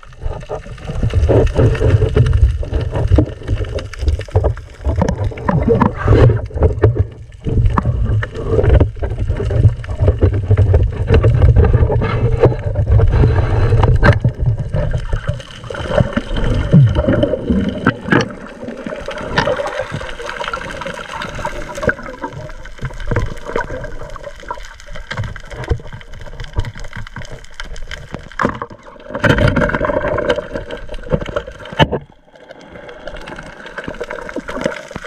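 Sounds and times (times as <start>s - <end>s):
muffled underwater rumble: 0.0s - 35.0s
water gurgling: 0.0s - 35.0s.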